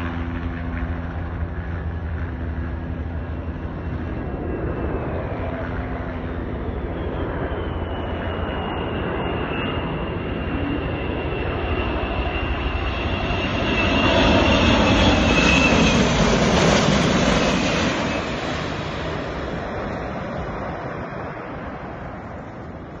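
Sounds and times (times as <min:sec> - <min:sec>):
jet engines of plane flying over: 0:00.0 - 0:23.0.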